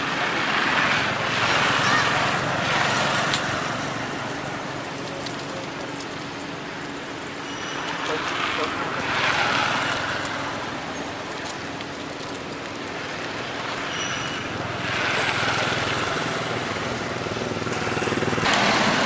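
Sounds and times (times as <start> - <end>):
outdoor hiss and rumble: 0.0 - 19.0.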